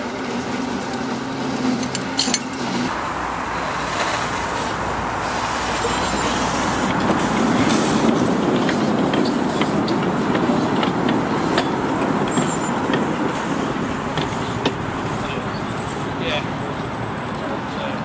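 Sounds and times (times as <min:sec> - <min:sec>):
train rumbling with wheel clicks: 0:00.0 - 0:18.0.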